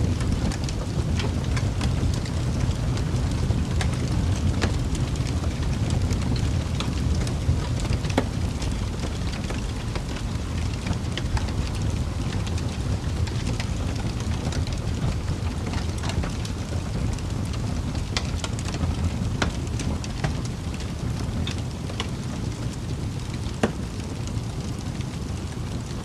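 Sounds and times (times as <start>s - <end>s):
wood fire crackling: 0.0s - 26.0s
sharp pops of burning logs: 0.1s - 24.9s.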